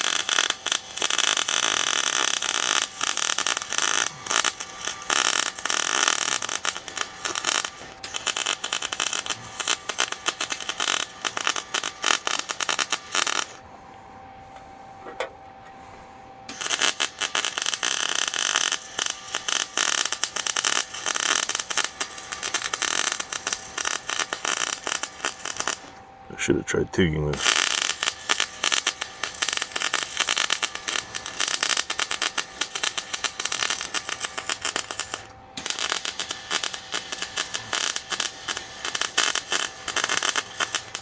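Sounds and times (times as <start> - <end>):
welding arc crackling: 0.0 - 13.6, 16.5 - 26.0, 27.2 - 41.0.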